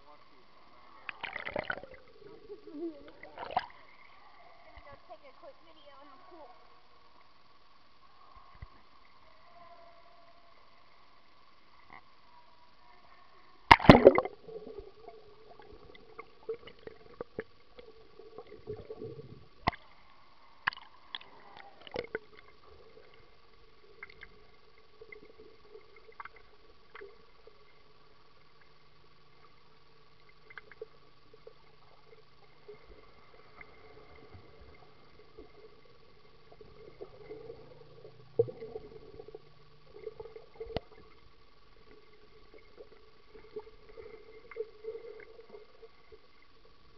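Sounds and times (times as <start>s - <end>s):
underwater gurgling: 0.0s - 5.2s, 6.5s - 46.9s
faint steady hum: 0.0s - 46.9s.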